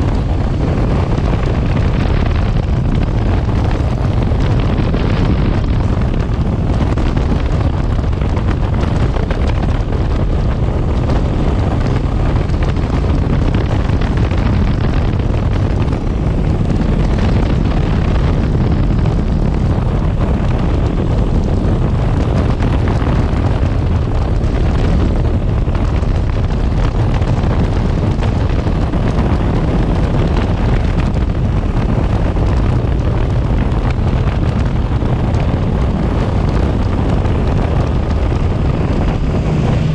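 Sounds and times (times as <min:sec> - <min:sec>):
motorcycle engine and road noise: 0:00.0 - 0:39.9
wind buffeting microphone: 0:00.0 - 0:39.9.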